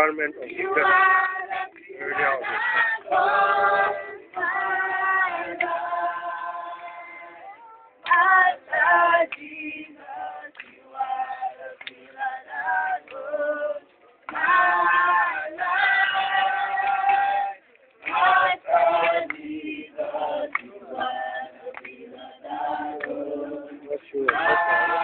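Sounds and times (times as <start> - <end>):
group singing long notes: 0.4 - 25.0.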